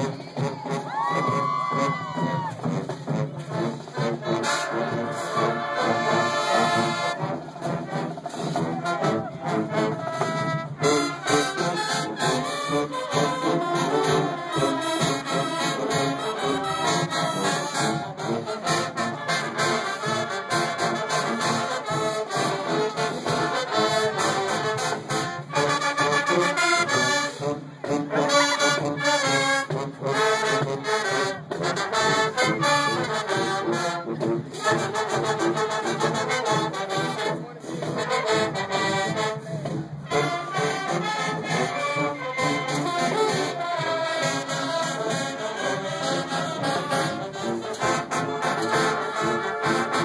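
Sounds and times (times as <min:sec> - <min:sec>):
marching band playing: 0:00.0 - 0:50.0
percussion beat: 0:00.0 - 0:50.0.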